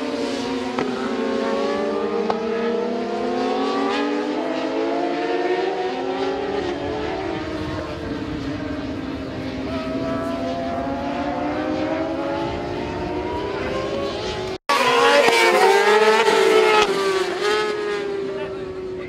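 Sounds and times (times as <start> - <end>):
motorcycle engines at high revs: 0.0 - 19.0.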